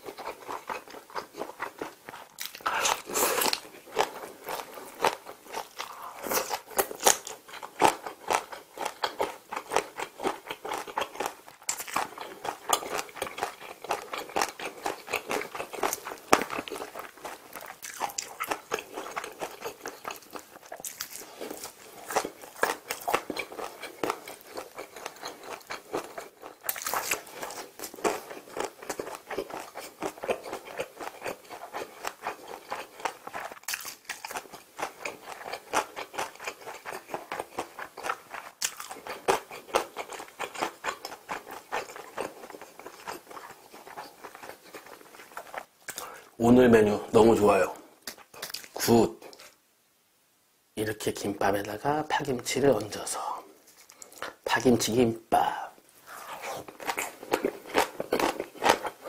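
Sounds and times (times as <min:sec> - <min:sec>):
close chewing crunches: 0:00.0 - 0:46.3, 0:47.7 - 0:49.6, 0:53.6 - 0:54.8, 0:56.0 - 0:59.0.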